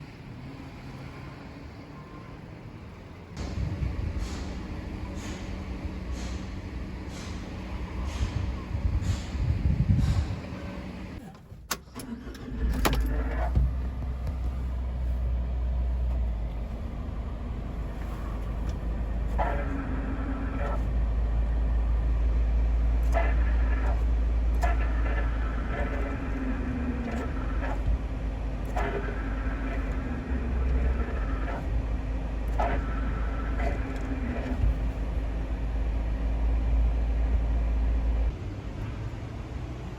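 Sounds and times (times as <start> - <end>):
van engine starting and running: 0.0 - 39.9.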